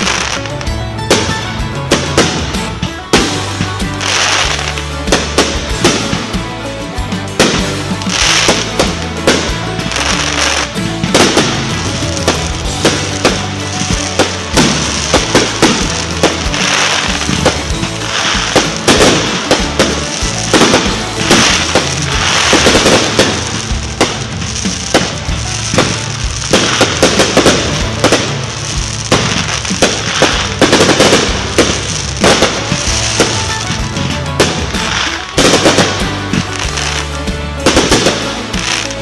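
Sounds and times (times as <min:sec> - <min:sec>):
fireworks bangs: 0:00.0 - 0:39.0
crackling sparks: 0:02.0 - 0:39.0.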